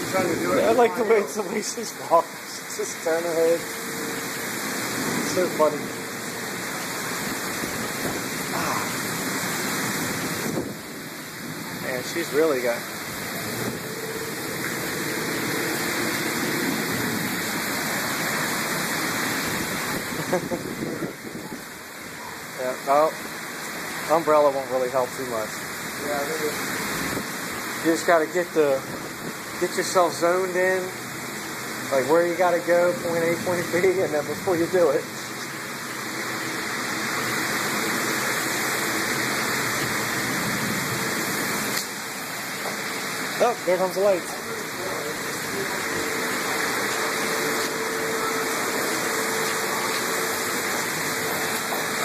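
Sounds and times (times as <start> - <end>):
heavy rain on pavement: 0.0 - 52.0.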